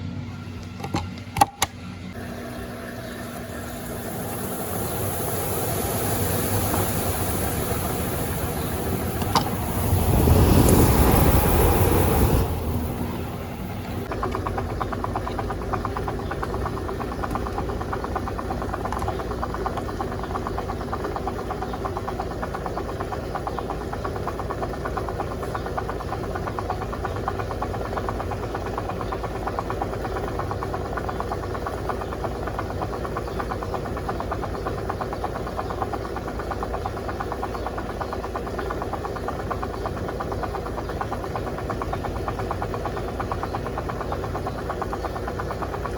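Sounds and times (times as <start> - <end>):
washing machine motor hum: 0.0 - 45.9
water rushing in washing machine: 2.2 - 45.9
fast even rattle: 3.6 - 45.9.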